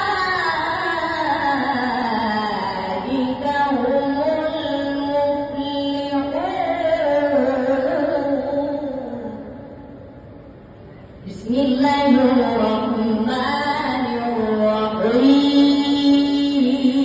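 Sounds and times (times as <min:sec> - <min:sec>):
young man chanting through a microphone: 0:00.0 - 0:09.6, 0:11.2 - 0:17.0.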